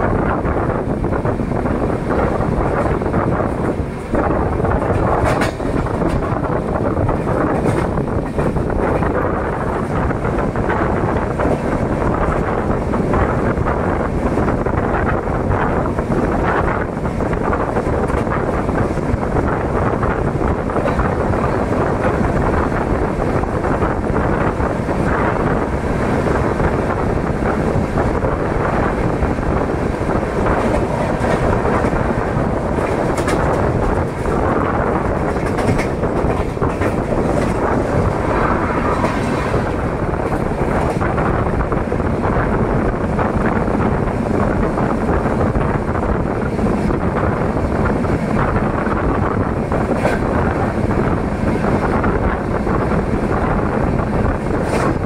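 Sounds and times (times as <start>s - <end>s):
train wheels rumbling on rails: 0.0s - 55.0s
wind rushing over microphone: 0.0s - 55.0s.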